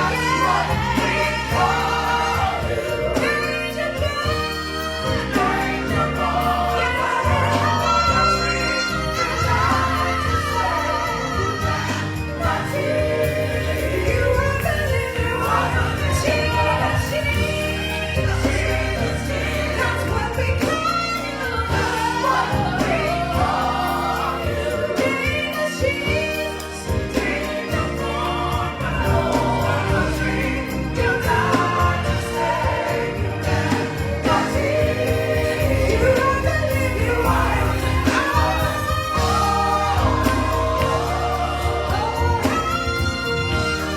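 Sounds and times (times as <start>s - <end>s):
bass line: 0.0s - 43.9s
choir singing: 0.0s - 43.9s.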